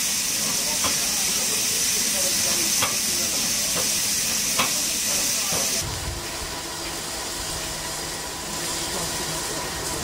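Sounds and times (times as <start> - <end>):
steam hissing: 0.0 - 10.0
steam locomotive rumble: 0.0 - 10.0.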